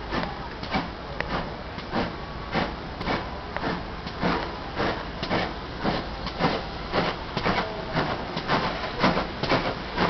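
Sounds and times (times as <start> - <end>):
steam hiss: 0.0 - 10.0
steam locomotive chuffing: 0.0 - 10.0.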